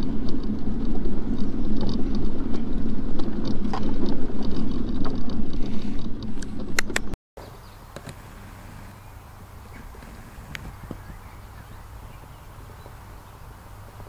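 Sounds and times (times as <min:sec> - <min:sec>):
mobility scooter motor hum: 0:00.0 - 0:14.0.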